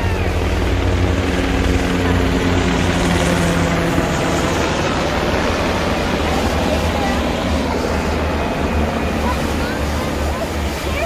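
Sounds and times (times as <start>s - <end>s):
ocean surf: 0.0s - 11.0s.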